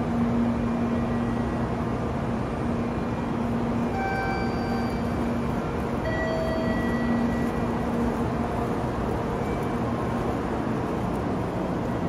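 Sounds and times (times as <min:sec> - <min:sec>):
train equipment humming: 0:00.0 - 0:12.0.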